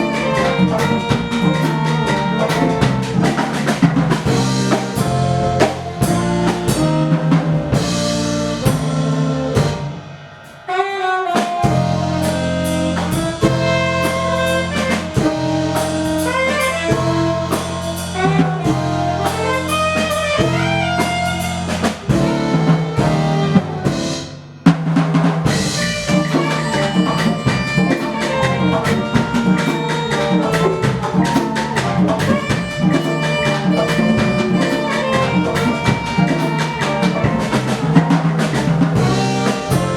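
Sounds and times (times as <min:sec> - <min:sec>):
live band music: 0:00.0 - 0:39.9
percussion and drums: 0:00.0 - 0:39.9.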